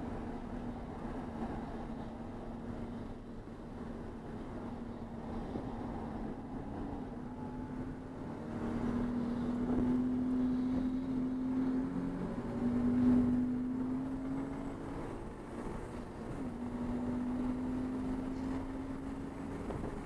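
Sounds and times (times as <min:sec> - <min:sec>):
race car engine droning: 0:00.0 - 0:20.0.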